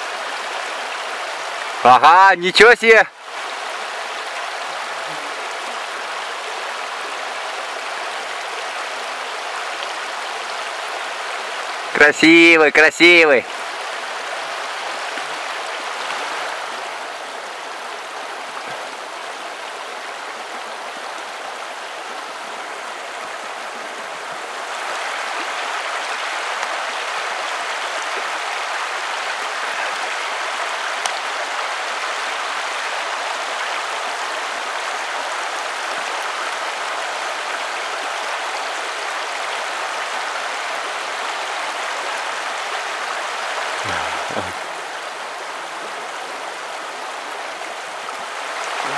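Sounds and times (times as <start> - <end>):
river rushing: 0.0 - 48.9.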